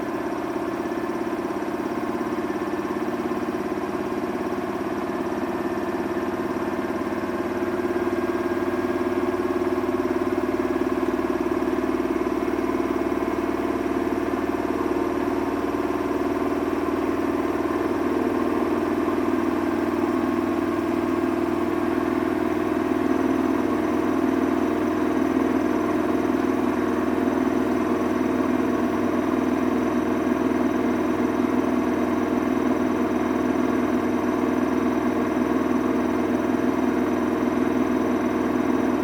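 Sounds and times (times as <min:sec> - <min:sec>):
washing machine hum: 0:00.0 - 0:39.0.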